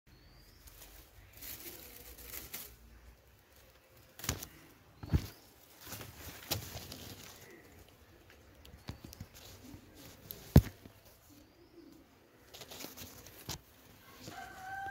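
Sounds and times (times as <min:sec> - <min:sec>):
leaves rustling against phone: 0:00.2 - 0:14.9.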